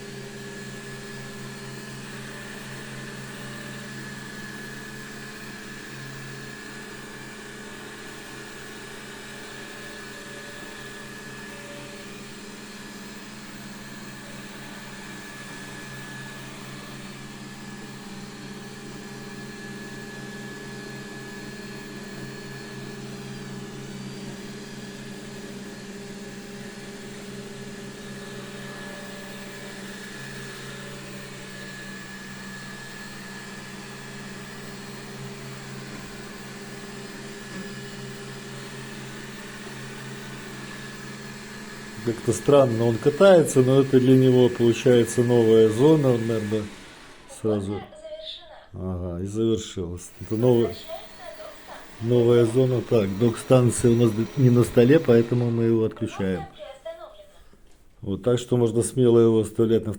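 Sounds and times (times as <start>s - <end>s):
robot vacuum humming and whining: 0.0s - 48.5s, 49.6s - 57.2s.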